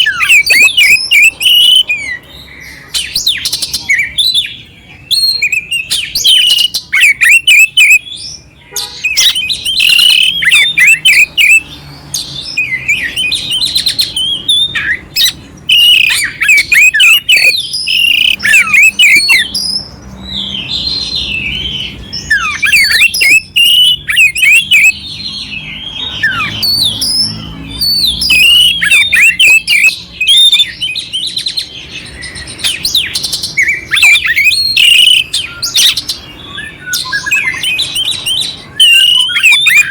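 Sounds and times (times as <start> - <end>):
bird singing whistles: 0.0 - 39.9.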